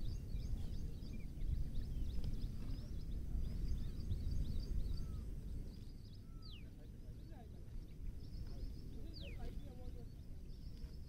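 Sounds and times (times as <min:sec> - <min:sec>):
low rumble of outdoor noise: 0:00.0 - 0:11.0
small birds chirping: 0:00.0 - 0:11.0.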